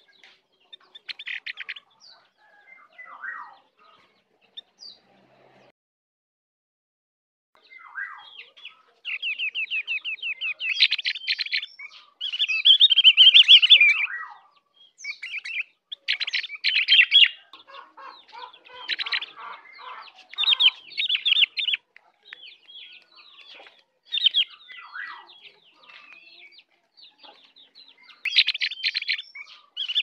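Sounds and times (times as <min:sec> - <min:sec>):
bird singing chattering trills: 0:00.0 - 0:05.0, 0:07.6 - 0:30.0.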